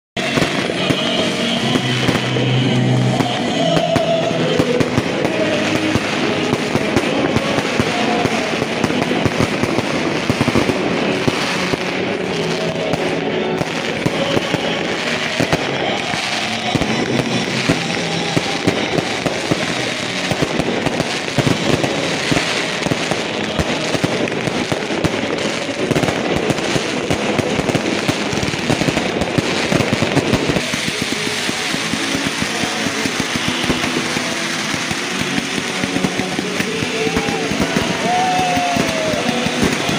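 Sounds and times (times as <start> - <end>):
firecrackers crackling and popping: 0.2 - 39.9
music: 0.2 - 39.9.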